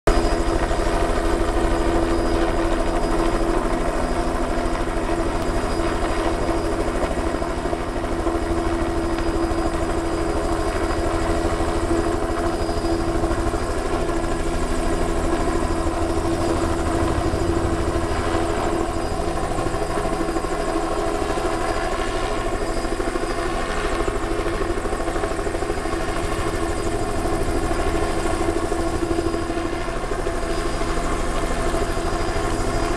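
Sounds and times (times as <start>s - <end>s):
helicopter hovering: 0.1s - 32.9s.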